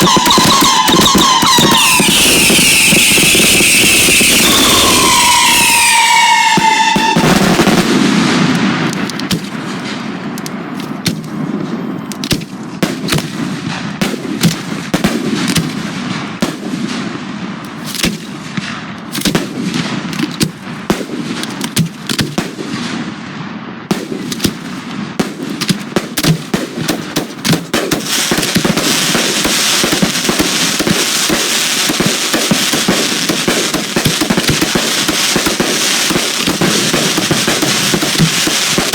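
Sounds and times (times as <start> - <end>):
whistling fireworks: 0.0 - 21.4, 22.4 - 38.9
firework shell bursts and crackles: 0.0 - 38.9.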